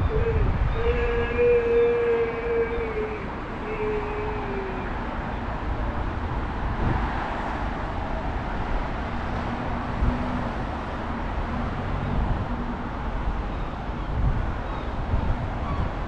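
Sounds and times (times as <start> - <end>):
passing road traffic: 0.0 - 16.0
wind buffeting microphone: 0.0 - 16.0.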